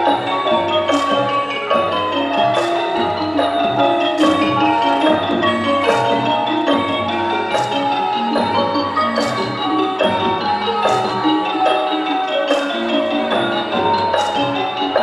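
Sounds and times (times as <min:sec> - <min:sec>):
xylophones and gongs playing melody: 0:00.0 - 0:15.0.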